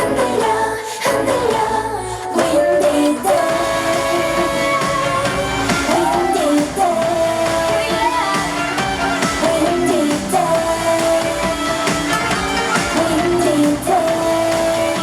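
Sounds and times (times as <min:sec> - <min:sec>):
pop backing music: 0:00.0 - 0:15.0
women singing pop song: 0:00.0 - 0:15.0.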